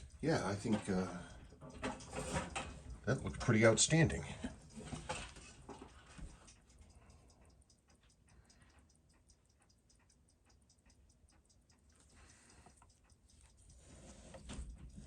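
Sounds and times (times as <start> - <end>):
watch movement ticking faintly: 0.0 - 15.0.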